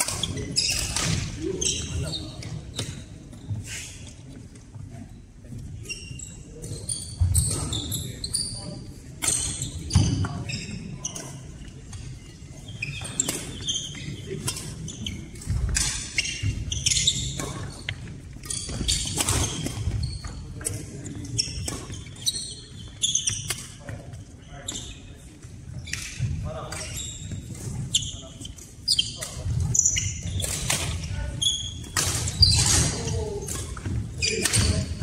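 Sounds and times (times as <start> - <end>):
shoes squeaking on court: 0.0 - 35.0.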